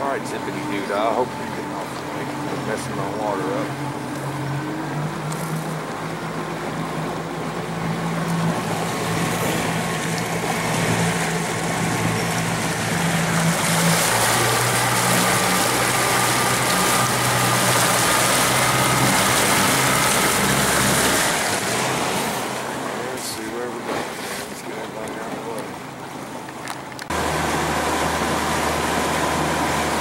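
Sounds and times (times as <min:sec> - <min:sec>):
outboard motor running: 0:00.0 - 0:30.0
wind and water rushing: 0:00.0 - 0:30.0.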